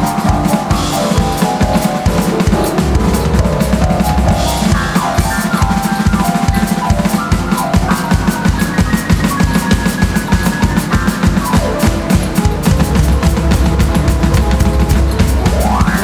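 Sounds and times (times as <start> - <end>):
rapid electronic drumming: 0.0 - 16.0.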